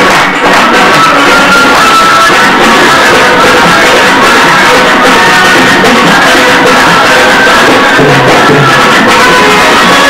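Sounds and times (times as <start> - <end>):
bhangra dance music: 0.0 - 10.0.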